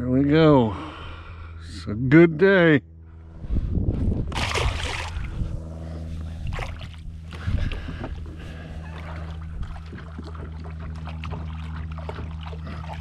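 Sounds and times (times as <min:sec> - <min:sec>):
steady low motor hum: 0:00.0 - 0:13.0.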